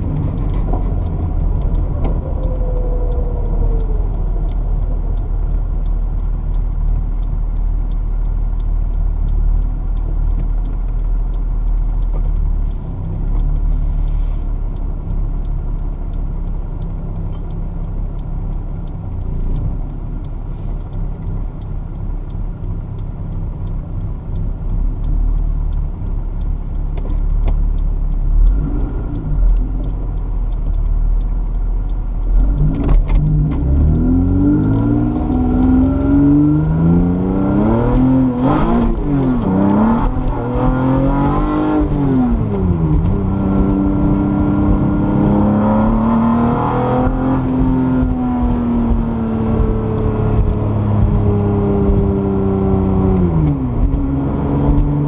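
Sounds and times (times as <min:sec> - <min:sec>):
car coasting to a stop: 0:00.0 - 0:55.0.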